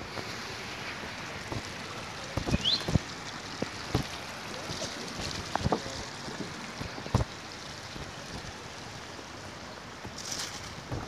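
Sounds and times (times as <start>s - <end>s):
water rushing over a ledge: 0.0s - 11.0s.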